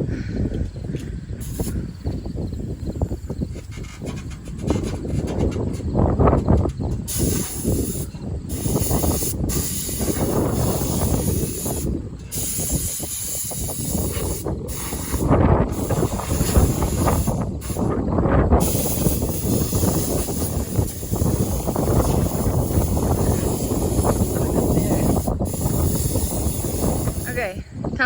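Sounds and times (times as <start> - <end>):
compressed air hissing: 1.0 - 27.7.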